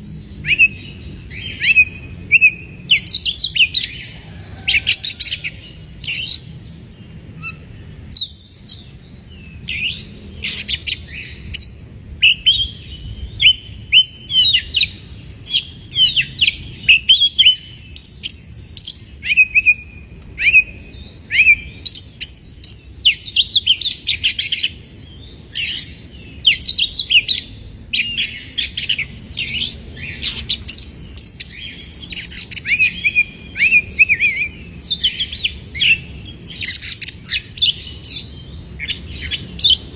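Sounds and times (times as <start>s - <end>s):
songbird chirping and whistling: 0.0s - 6.6s, 7.4s - 39.9s.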